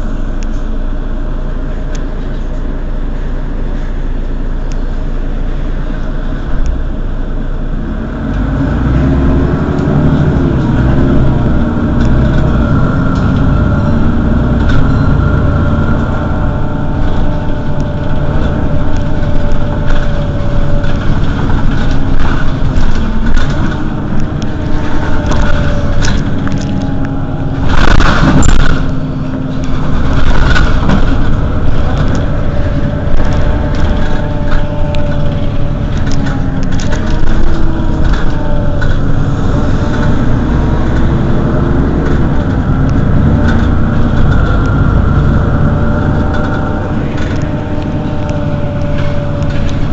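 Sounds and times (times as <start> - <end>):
bus engine idling: 0.0 - 49.9.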